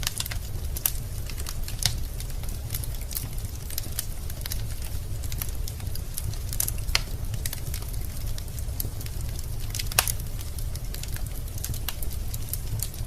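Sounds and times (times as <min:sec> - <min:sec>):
fire low rumble: 0:00.0 - 0:13.0
logs crackling and popping: 0:00.0 - 0:13.0.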